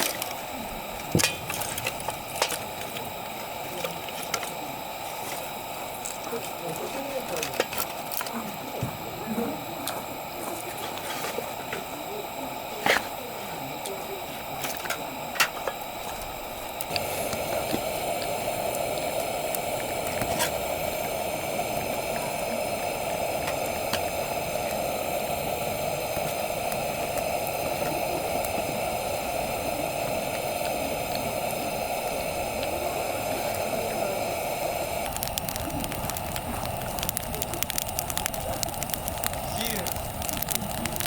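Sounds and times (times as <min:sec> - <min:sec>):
food bubbling and hissing: 0:00.0 - 0:41.0.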